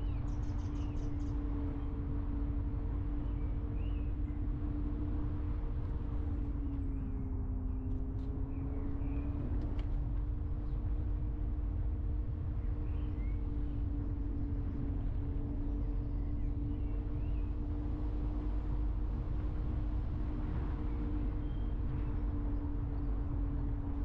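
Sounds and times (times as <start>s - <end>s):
road rumble: 0.0s - 24.0s.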